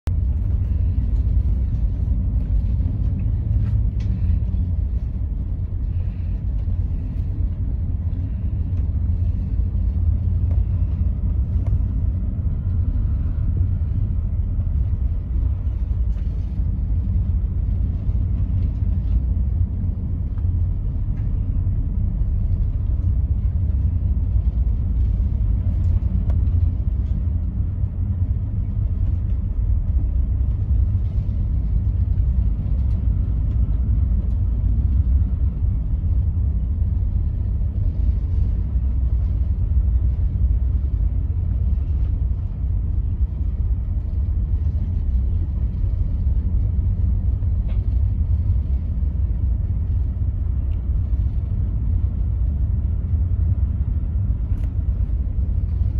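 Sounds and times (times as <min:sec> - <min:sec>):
low rumble aboard ship: 0:00.0 - 0:55.9.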